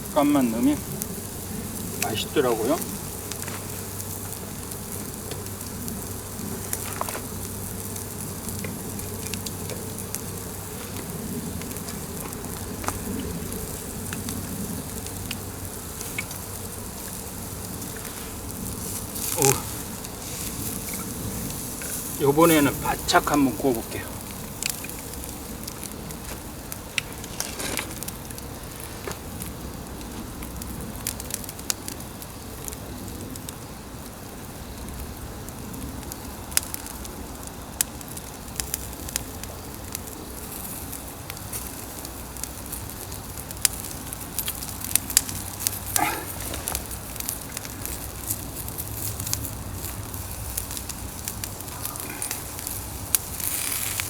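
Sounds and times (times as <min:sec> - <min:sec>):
log fire crackling and popping: 0:00.0 - 0:54.0
meat sizzling on a grill: 0:00.0 - 0:54.0.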